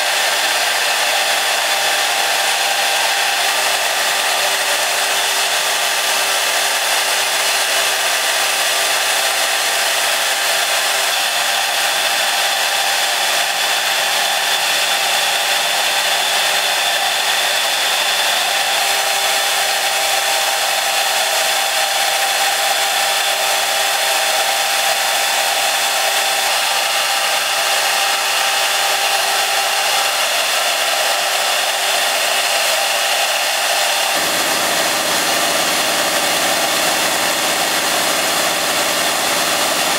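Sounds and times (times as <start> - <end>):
router spindle high-pitched whine: 0.0 - 39.9.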